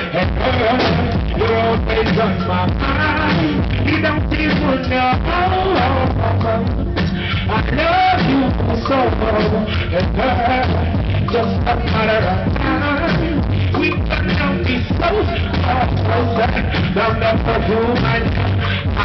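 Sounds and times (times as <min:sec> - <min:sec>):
person singing: 0:00.0 - 0:19.0
reggae band with heavy bass: 0:00.0 - 0:19.0.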